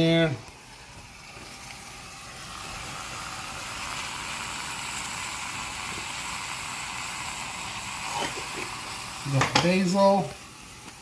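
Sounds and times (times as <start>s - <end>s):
sauce cooking hiss: 0.0s - 11.0s.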